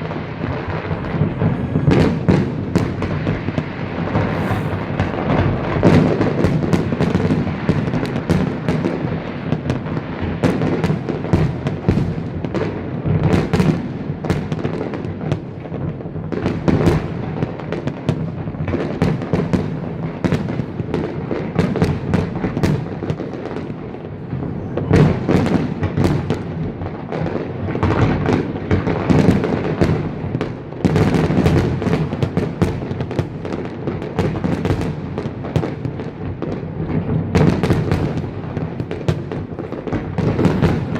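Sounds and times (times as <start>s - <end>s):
fireworks bangs and crackling: 0.0s - 40.9s
fireworks booms: 0.0s - 40.9s.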